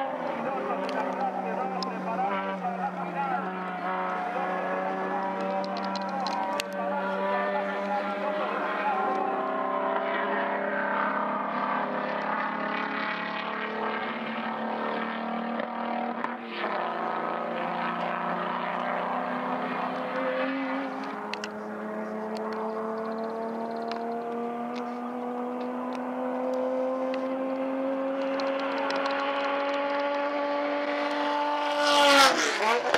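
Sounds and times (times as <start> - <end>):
race car engines accelerating: 0.0 - 32.9.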